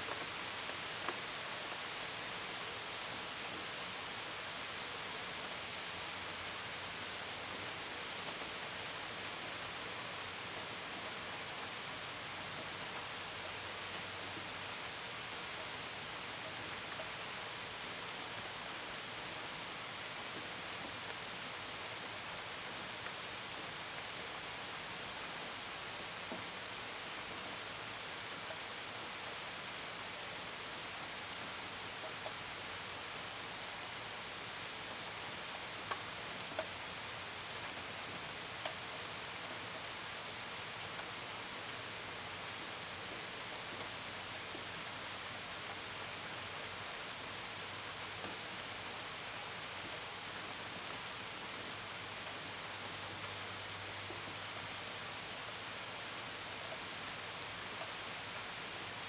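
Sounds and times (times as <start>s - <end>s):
crickets chirping faintly: 0.0s - 59.0s
steady rain falling: 0.0s - 59.0s.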